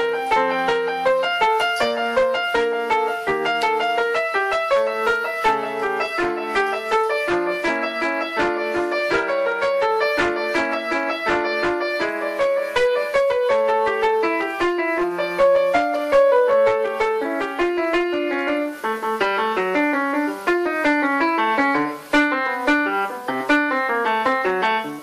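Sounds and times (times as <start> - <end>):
grand piano solo: 0.0 - 25.0.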